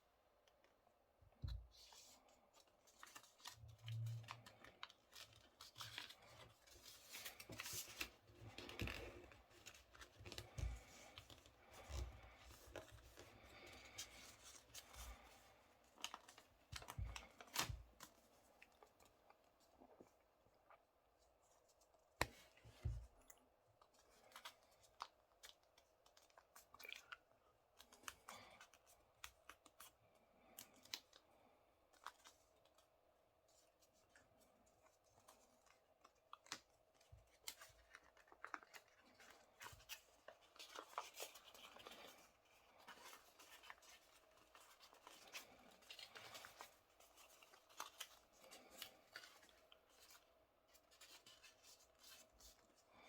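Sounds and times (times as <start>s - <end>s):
paper being folded and creased: 1.4s - 20.1s, 21.4s - 31.2s, 31.8s - 53.0s.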